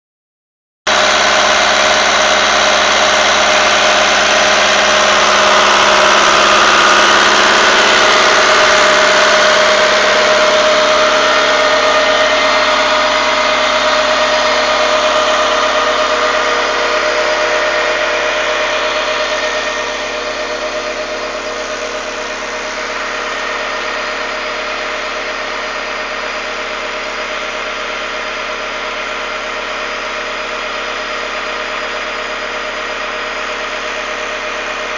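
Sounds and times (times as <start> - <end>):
tractor diesel engine running: 0.9 - 34.9.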